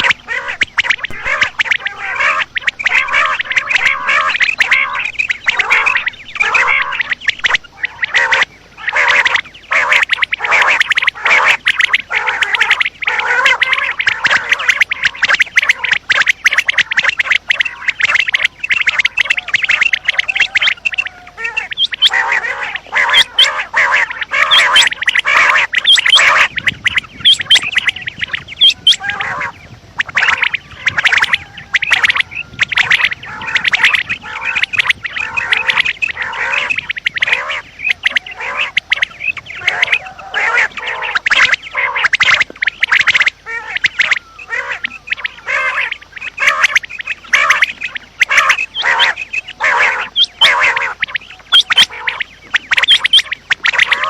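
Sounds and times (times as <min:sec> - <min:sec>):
quail calls: 0:00.0 - 0:54.0.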